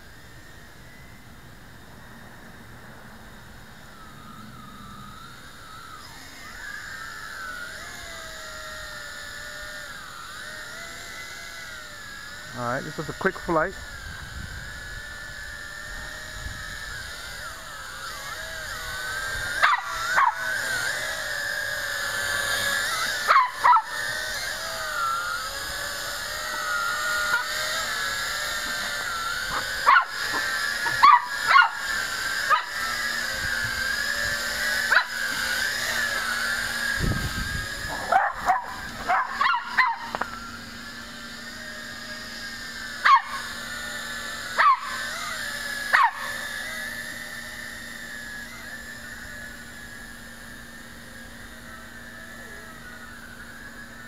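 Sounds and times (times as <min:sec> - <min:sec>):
drone motors whining: 0:00.0 - 0:54.0.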